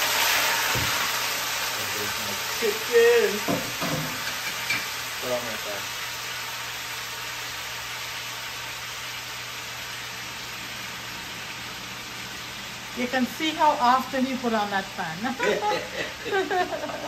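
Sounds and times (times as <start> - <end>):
chicken sizzling in hot oil: 0.0 - 17.0
extractor fan humming: 0.0 - 17.0.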